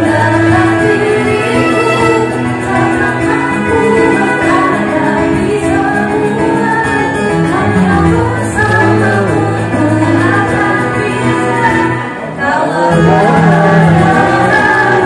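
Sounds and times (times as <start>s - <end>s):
instrumental accompaniment: 0.0s - 15.0s
person singing: 0.0s - 15.0s.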